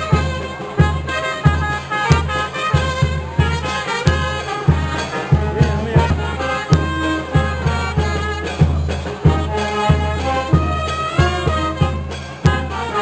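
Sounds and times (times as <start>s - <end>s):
brass band with trumpets: 0.0s - 13.0s
steady low drum beat: 0.0s - 13.0s.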